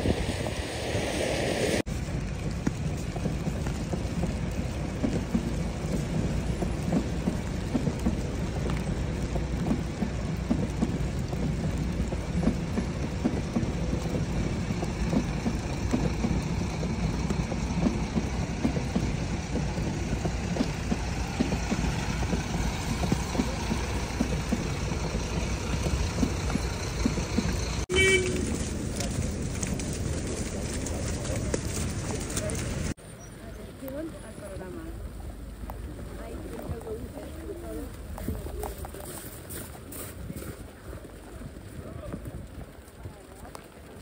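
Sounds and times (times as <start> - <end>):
wind buffeting microphone: 0.0 - 33.0, 35.0 - 44.0
train running: 0.0 - 44.0.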